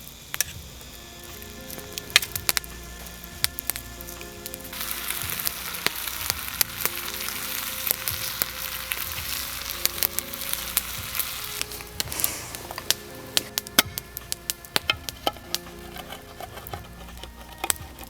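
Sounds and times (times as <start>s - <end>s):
food sizzling in a hot pan: 0.0s - 18.0s
sharp crackles and pops: 0.0s - 18.0s.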